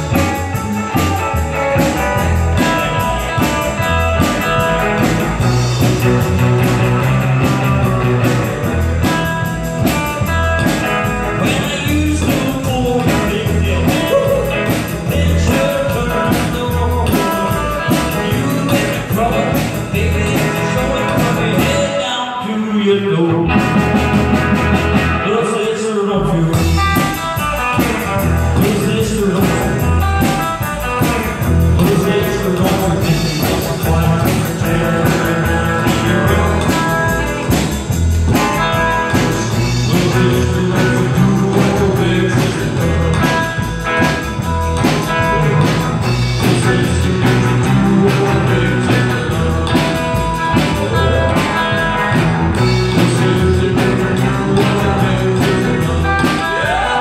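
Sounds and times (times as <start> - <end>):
upright bass: 0.0 - 22.2, 23.0 - 57.0
drums: 0.0 - 57.0
electric guitar: 0.0 - 57.0.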